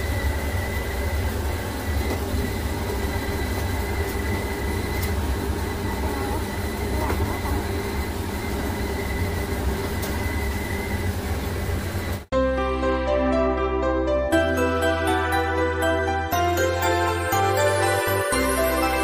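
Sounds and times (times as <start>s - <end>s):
machine hum with high whine: 0.0s - 12.3s, 13.0s - 19.0s.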